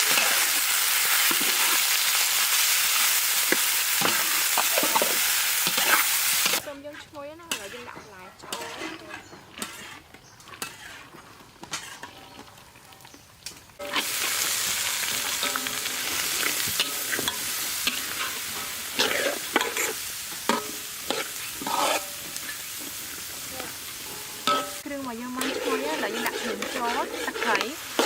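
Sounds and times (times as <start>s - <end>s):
vegetables sizzling in hot oil: 0.0s - 9.0s, 9.6s - 28.0s
metal utensil scraping pan: 3.4s - 13.0s, 13.8s - 28.0s.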